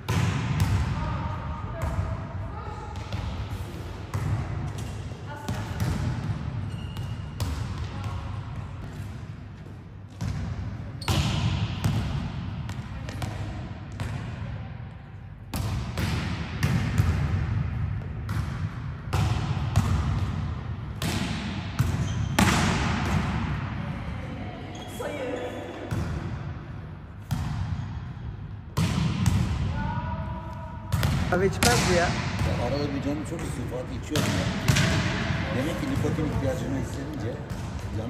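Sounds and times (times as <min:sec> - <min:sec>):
volleyballs smacking and bouncing: 0:00.0 - 0:14.5, 0:15.3 - 0:23.8, 0:25.8 - 0:38.0.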